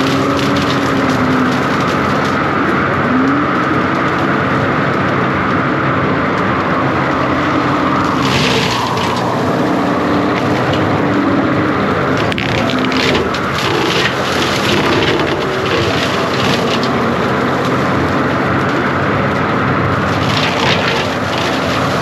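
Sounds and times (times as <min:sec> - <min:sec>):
track loader engine running: 0:00.0 - 0:22.0.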